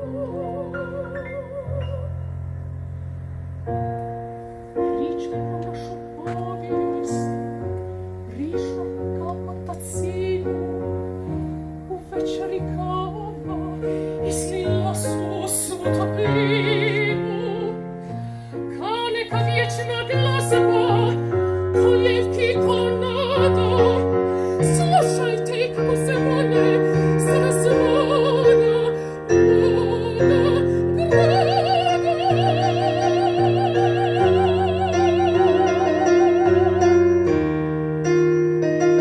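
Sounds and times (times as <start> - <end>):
woman singing operatically: 0.0 - 2.2, 4.8 - 7.5, 8.3 - 10.8, 11.9 - 17.8, 18.7 - 37.2
digital piano chords: 0.0 - 39.0.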